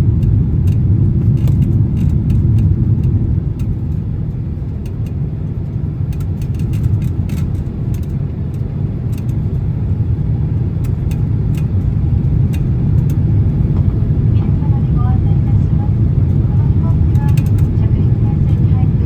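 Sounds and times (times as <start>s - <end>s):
airliner cabin engine rumble: 0.0s - 19.0s
light rattling clicks in cabin: 0.0s - 19.0s.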